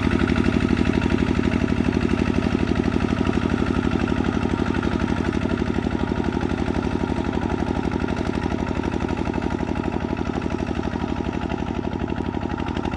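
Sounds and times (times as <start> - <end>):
diesel engine chugging: 0.0 - 12.9.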